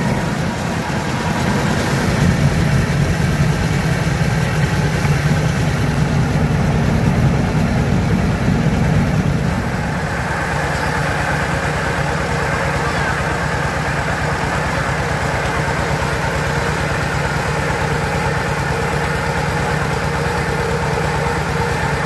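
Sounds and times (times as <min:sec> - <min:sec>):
rice mill engine humming: 0:00.0 - 0:22.0.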